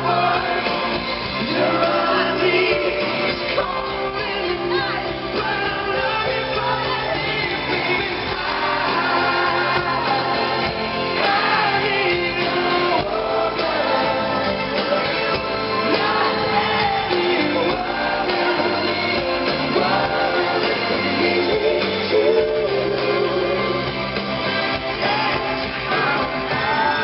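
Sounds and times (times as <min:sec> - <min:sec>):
crowd voices: 0:00.0 - 0:27.0
lead vocals singing: 0:00.0 - 0:27.0
live pop-rock band playing: 0:00.0 - 0:27.0.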